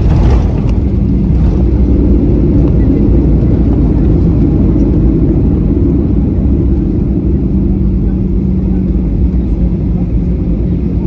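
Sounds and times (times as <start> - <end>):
airliner engine rumble in cabin: 0.0 - 11.0
steady hum: 0.0 - 11.0.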